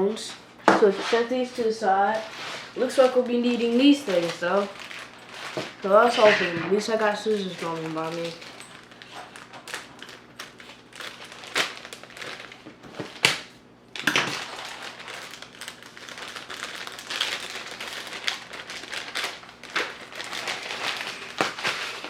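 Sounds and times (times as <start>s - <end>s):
plastic packaging crinkling: 1.4s - 22.0s.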